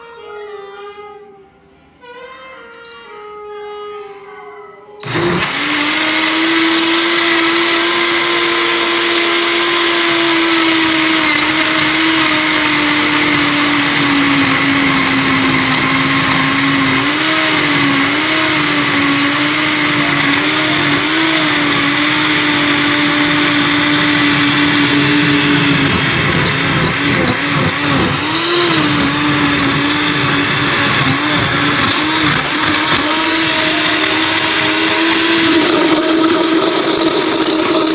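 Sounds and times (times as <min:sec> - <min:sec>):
blender motor running: 0:05.0 - 0:37.9.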